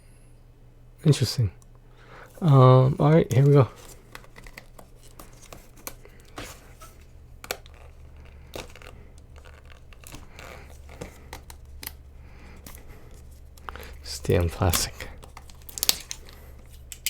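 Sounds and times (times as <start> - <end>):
low steady hum: 0.0 - 17.0
plastic packaging tearing and crinkling: 2.3 - 17.0.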